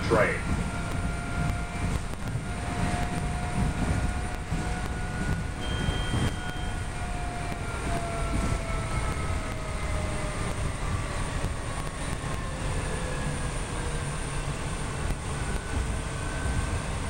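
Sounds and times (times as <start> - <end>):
traction motor whine: 0.0 - 17.0
train wheel rumble: 0.0 - 17.0.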